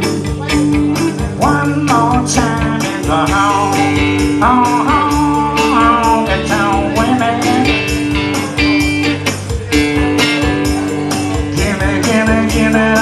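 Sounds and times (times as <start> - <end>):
lead guitar: 0.0 - 13.0
live country-blues band: 0.0 - 13.0.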